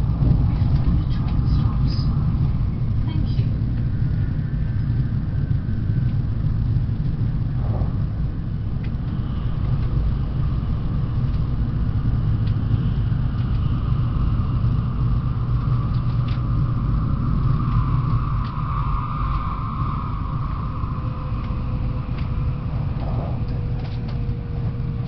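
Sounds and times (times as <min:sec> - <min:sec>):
faint whine: 0:00.0 - 0:25.0
train rumble inside car: 0:00.0 - 0:25.0.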